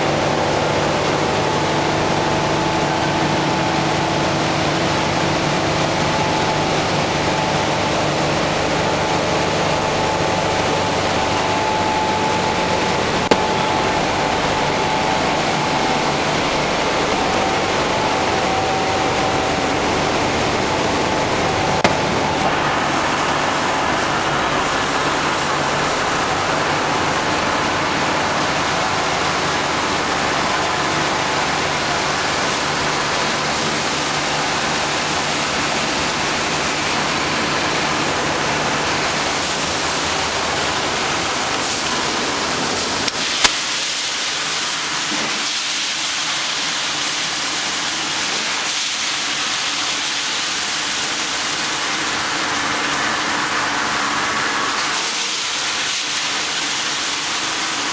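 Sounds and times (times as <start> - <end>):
machinery hum: 0.0 - 57.9.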